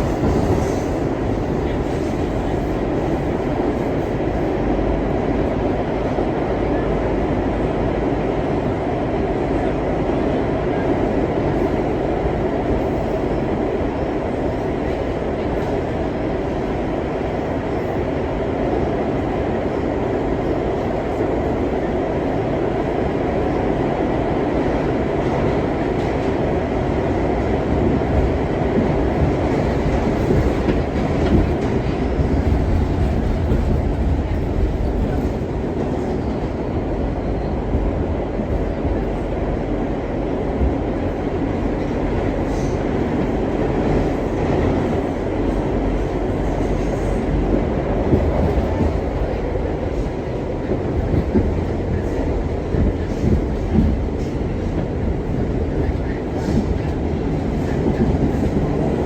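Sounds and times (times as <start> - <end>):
subway train wheels on rail: 0.0 - 59.0.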